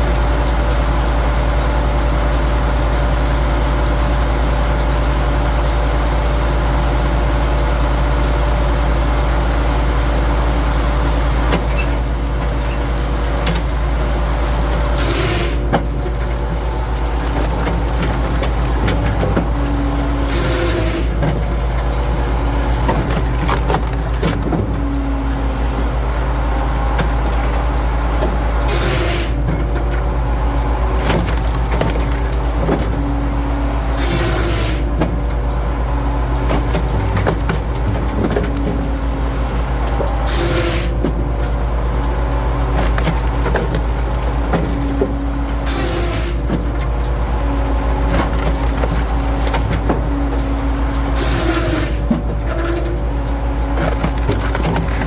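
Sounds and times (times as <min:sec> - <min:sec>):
engine running under load: 0:00.0 - 0:55.0.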